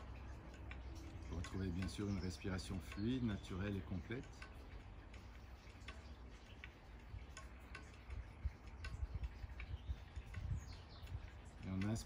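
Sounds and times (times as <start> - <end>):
light ticks and clicks: 0.0 - 12.0.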